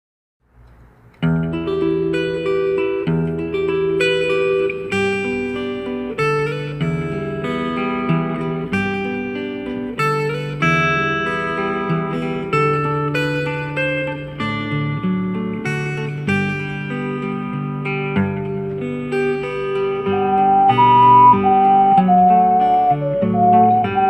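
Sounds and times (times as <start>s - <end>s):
acoustic guitar chords: 1.2s - 24.0s.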